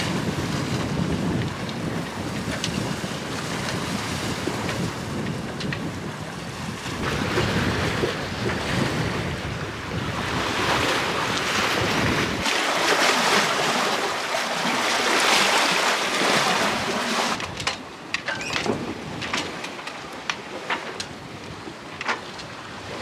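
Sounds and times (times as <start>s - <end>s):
wind buffeting microphone: 0.0s - 14.2s, 14.8s - 23.0s
water splashing along hull: 0.0s - 23.0s.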